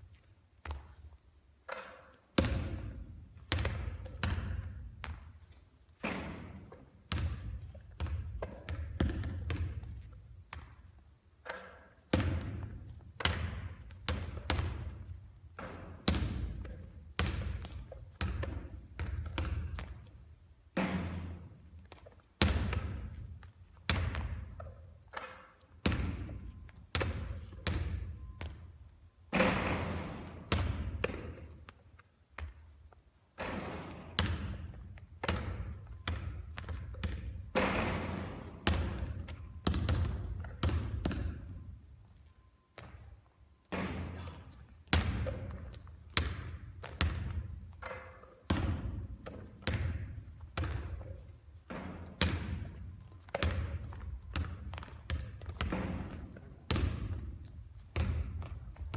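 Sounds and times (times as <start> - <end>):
basketballs bouncing on court floor: 0.6 - 32.8, 33.4 - 41.8, 42.8 - 58.9.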